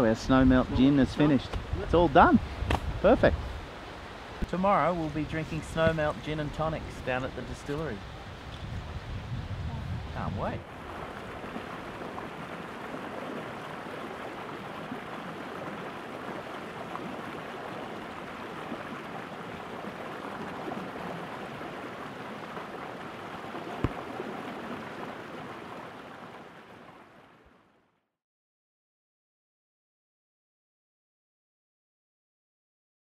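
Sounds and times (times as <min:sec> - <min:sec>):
creek running over rocks: 0:00.0 - 0:27.8.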